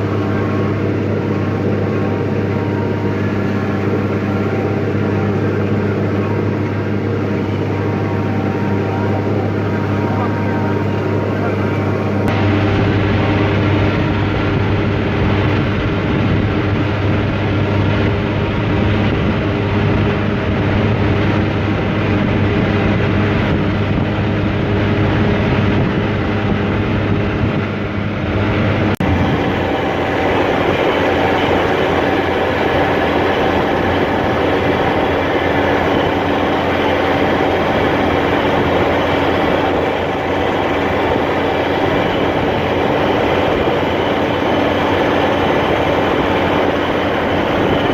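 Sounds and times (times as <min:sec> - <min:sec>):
forage harvester machine drone: 0:00.0 - 0:47.9
tractor diesel engine under load: 0:00.0 - 0:47.9.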